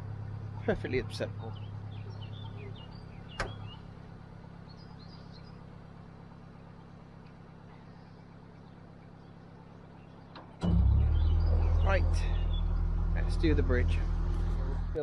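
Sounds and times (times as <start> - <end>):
diesel engine ticking over: 0.0 - 15.0.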